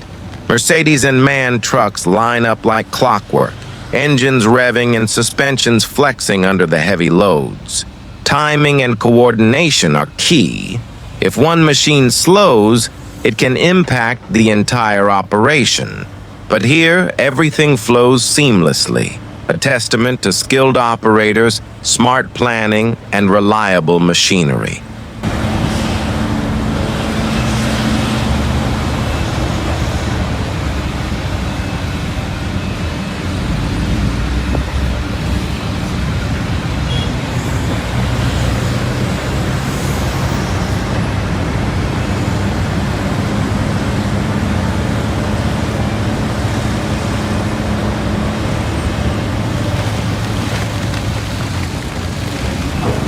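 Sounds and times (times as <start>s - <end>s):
heavy diesel machinery running: 0.0s - 23.6s, 24.5s - 53.0s.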